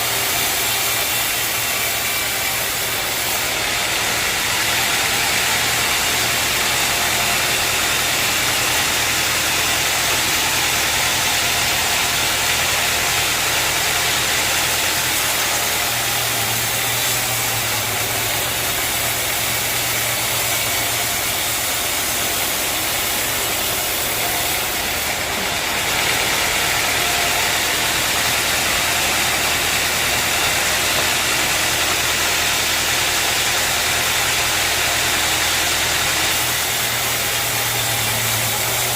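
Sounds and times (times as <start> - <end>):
sawmill motor hum: 0.0 - 38.9
steady machine hiss: 0.0 - 38.9.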